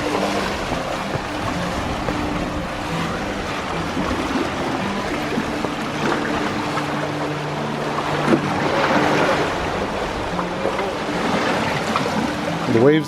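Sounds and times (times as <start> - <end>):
low held tones shifting pitch: 0.0 - 13.0
waves washing onto rocky shore: 0.0 - 13.0.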